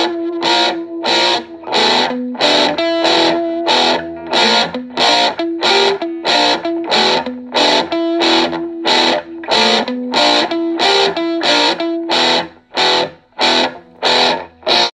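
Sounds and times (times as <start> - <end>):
distorted electric guitar music: 0.0 - 15.0.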